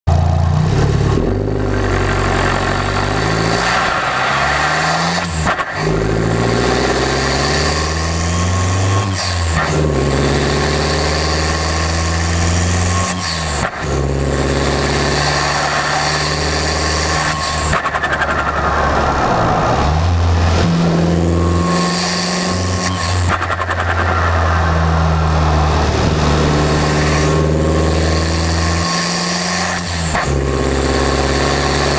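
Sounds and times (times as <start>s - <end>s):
car engine accelerating: 0.1s - 31.9s.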